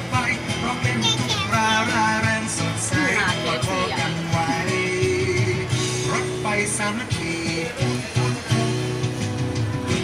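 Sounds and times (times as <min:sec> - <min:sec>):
song with singing voice: 0:00.0 - 0:10.0.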